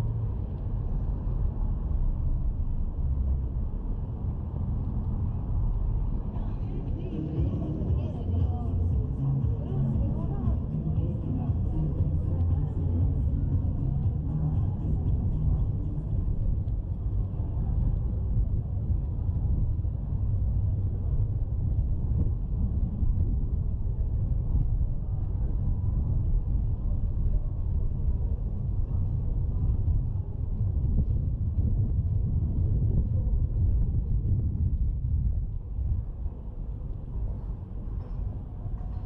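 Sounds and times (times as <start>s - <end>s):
deep outdoor rumble: 0.0s - 39.0s.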